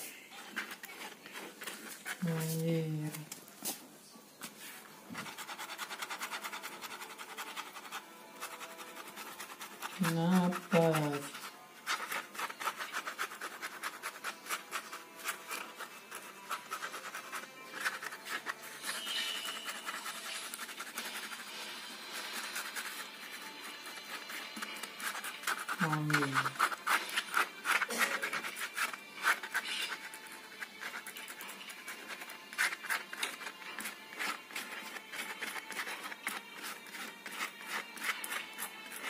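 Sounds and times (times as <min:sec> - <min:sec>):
ballpoint pen scratching on paper: 0:00.0 - 0:03.2, 0:05.1 - 0:39.0.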